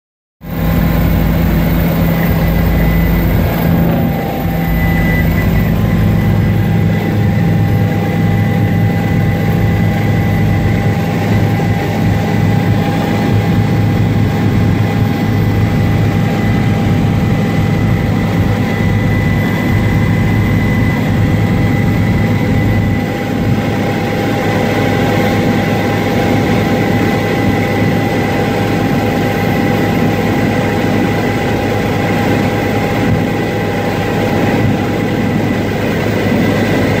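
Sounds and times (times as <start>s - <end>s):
helicopter engine and rotor drone: 0.4s - 37.0s
high-pitched whines: 0.5s - 37.0s.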